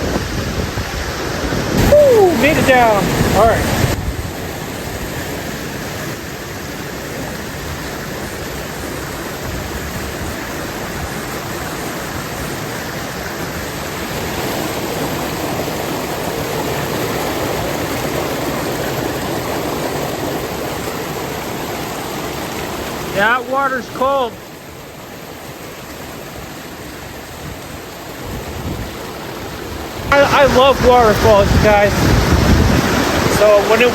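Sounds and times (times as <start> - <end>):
waterfall pouring into a pool: 0.0 - 33.9.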